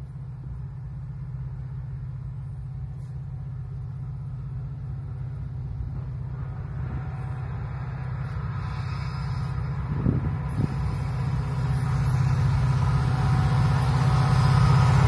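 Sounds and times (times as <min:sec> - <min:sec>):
diesel train rumble: 0:00.0 - 0:15.0.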